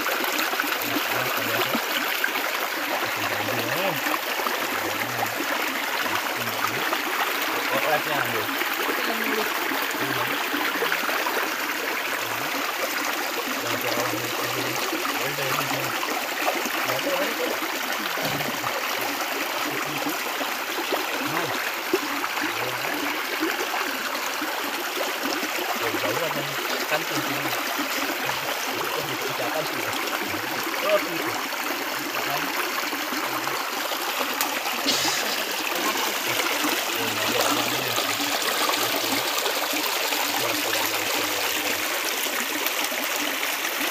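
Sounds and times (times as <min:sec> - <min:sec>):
river running over stones: 0:00.0 - 0:43.9.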